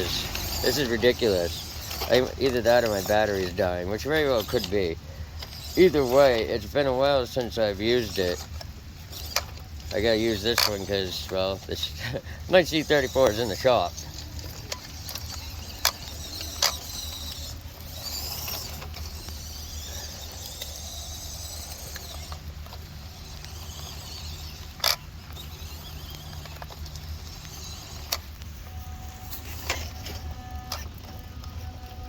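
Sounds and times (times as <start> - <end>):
sharp clicks from toy truck: 0.0 - 32.0
small electric motor whining: 0.0 - 32.0.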